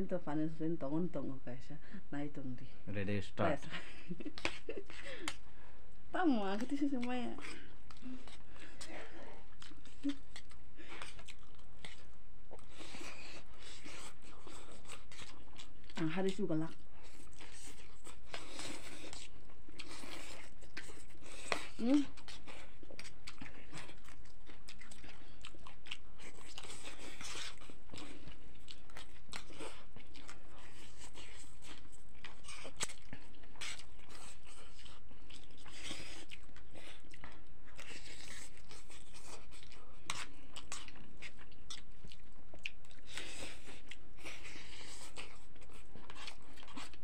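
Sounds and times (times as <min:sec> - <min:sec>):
chewing: 0:06.4 - 0:47.0.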